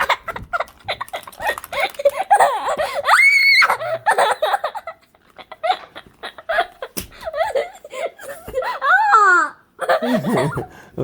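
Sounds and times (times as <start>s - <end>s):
child laughing and squealing: 0.0s - 10.6s.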